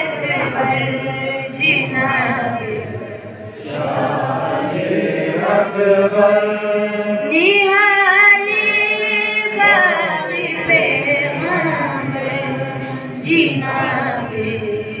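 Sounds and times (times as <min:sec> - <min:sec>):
person chanting unaccompanied: 0:00.0 - 0:15.0.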